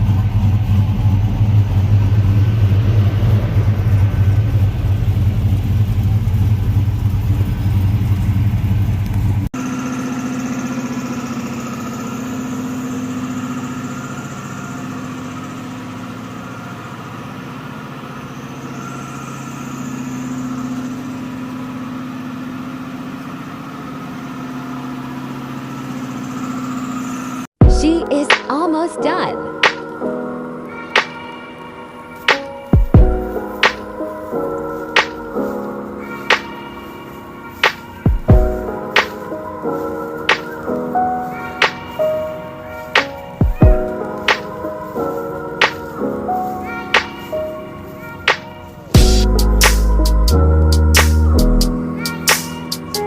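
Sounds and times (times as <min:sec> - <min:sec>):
engine idling: 0:00.0 - 0:27.8, 0:32.2 - 0:53.0.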